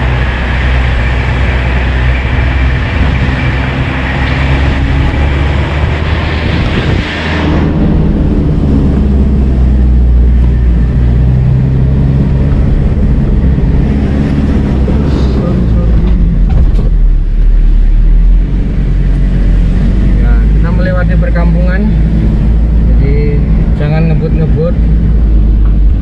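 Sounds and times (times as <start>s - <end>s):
car engine and road hum: 0.0s - 26.0s
wind rushing: 0.0s - 26.0s.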